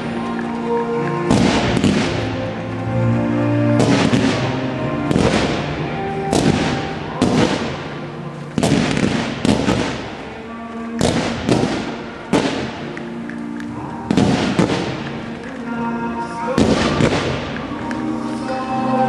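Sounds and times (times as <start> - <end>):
fireworks bursting: 0.0 - 19.0
music: 0.0 - 19.0.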